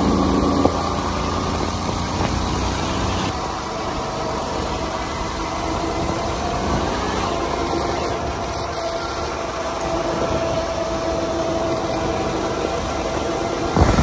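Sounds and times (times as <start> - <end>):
lawn mower engine running: 0.0 - 14.0
wind and road rumble: 0.0 - 14.0.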